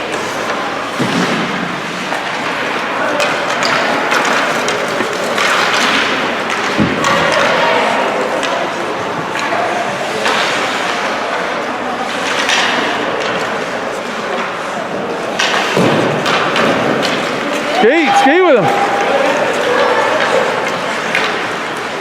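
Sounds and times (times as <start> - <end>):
crowd voices: 0.0 - 22.0
hockey sticks clacking: 0.0 - 22.0
skates scraping ice: 0.0 - 22.0.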